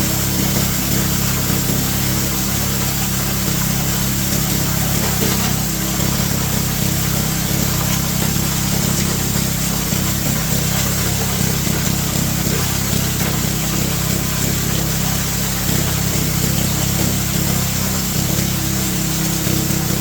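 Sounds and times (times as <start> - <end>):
grinder motor drone: 0.0 - 20.0
hissing rattling grind: 0.0 - 20.0.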